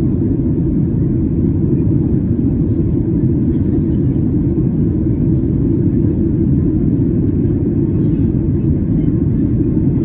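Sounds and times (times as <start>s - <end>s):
airplane cabin engine roar: 0.0s - 10.0s.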